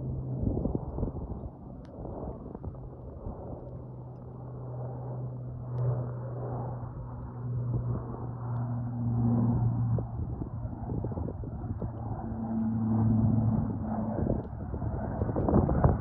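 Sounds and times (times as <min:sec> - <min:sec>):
turboprop aircraft engines droning: 0:00.0 - 0:16.0.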